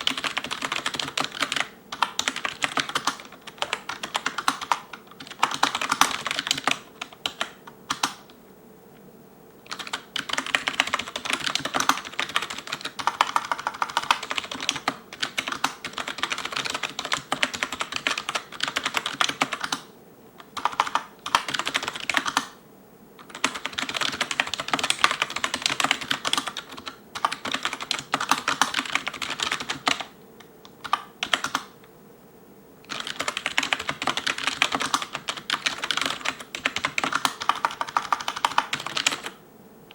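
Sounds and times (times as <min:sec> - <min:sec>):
fast typing on keyboard: 0:00.0 - 0:08.3, 0:09.7 - 0:22.6, 0:23.2 - 0:31.8, 0:32.9 - 0:39.4.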